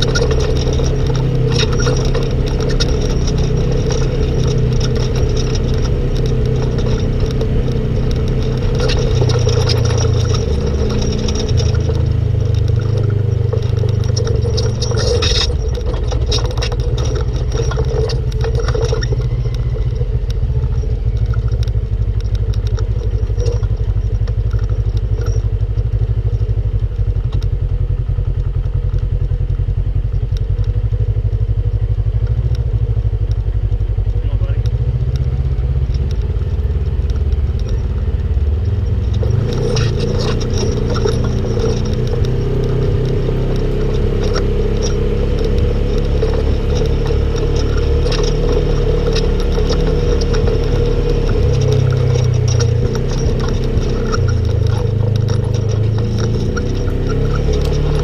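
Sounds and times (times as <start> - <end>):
rattling and clatter: 0.0 - 58.0
vehicle engine revving: 0.0 - 58.0.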